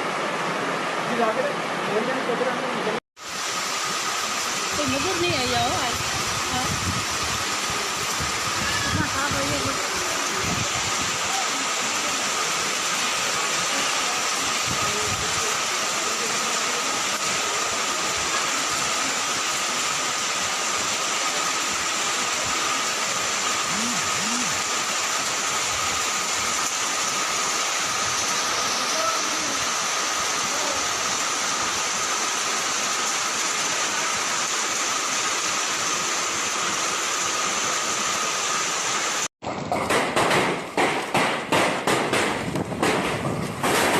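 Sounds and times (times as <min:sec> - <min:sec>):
floodwater rushing: 0:00.0 - 0:43.9.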